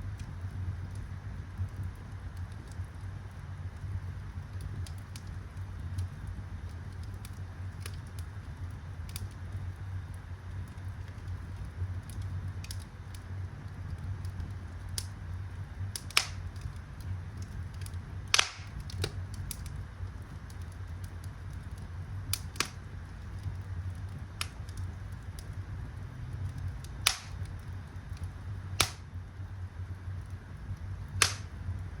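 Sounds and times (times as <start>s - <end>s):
low steady rumble: 0.0s - 32.0s
wood fire crackling: 0.0s - 32.0s
sharp pops of fire: 3.8s - 32.0s.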